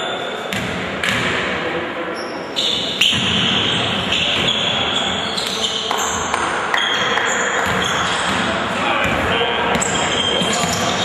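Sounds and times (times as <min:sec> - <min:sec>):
ball bouncing on court: 0:00.5 - 0:01.4, 0:03.0 - 0:11.0.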